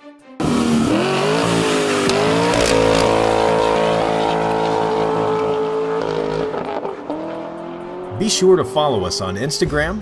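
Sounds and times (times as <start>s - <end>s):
car engine at high revs: 0.4s - 9.1s.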